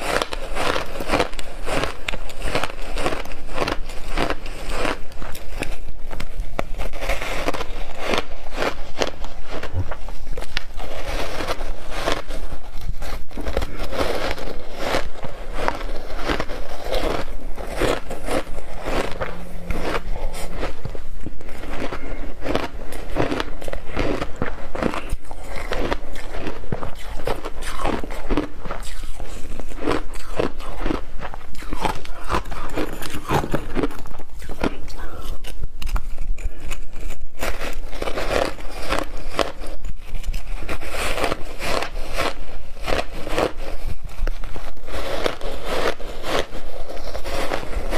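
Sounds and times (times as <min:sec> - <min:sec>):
ice being chewed: 0:00.0 - 0:47.9.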